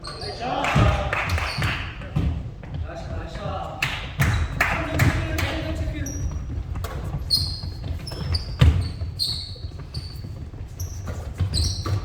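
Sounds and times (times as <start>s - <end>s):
sneakers squeaking on court: 0.0s - 2.8s, 4.3s - 12.0s
basketballs bouncing on gym floor: 0.0s - 12.0s.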